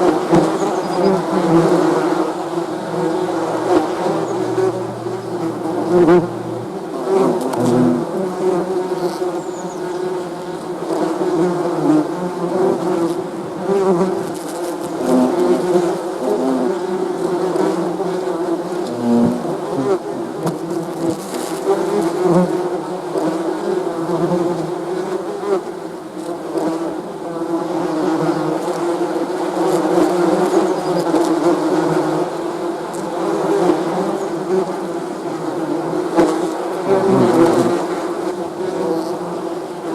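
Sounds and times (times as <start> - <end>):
bees buzzing: 0.0 - 22.7, 27.8 - 39.9.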